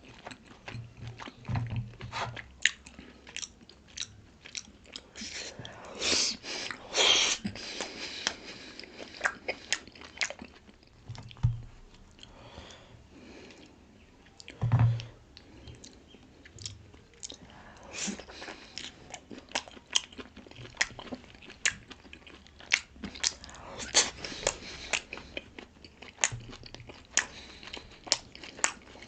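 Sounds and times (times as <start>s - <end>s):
person chewing wetly: 0.0s - 29.0s.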